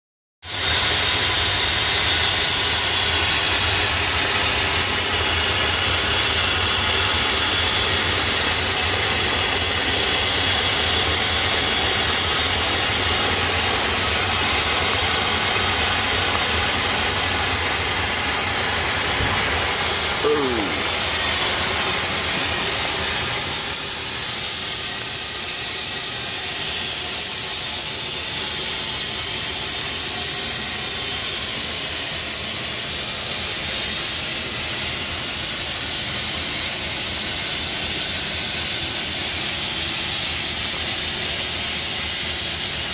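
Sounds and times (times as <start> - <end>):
steam hose hissing: 0.4 - 42.9.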